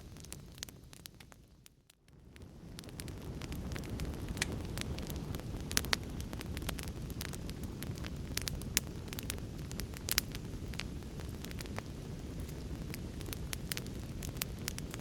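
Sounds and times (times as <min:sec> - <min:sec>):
fire crackling: 0:00.0 - 0:15.0
sharp pops and snaps of fire: 0:00.0 - 0:15.0.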